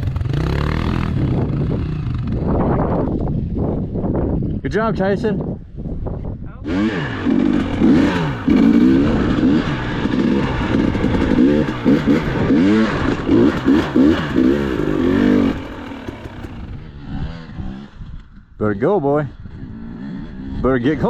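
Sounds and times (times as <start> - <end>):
dirt bike engine revving: 0.0 - 4.4, 6.6 - 18.7, 19.3 - 21.0.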